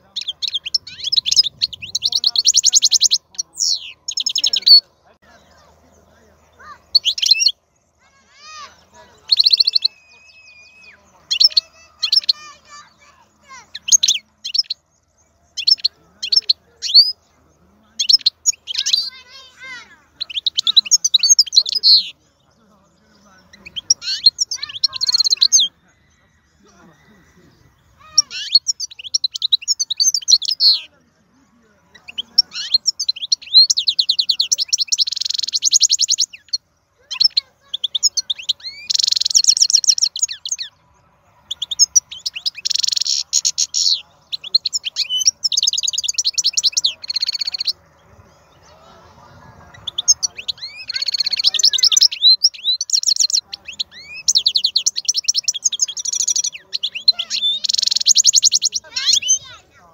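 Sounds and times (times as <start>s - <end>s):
goldfinch twittering song: 0.0s - 59.9s.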